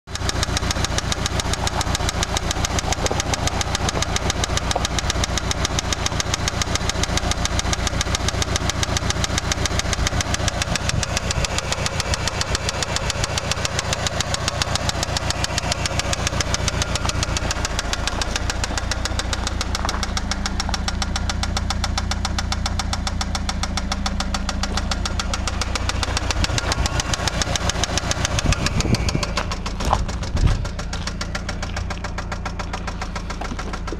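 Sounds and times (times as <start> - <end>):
car engine running: 0.0 - 33.9
engine rod knock: 0.4 - 33.9.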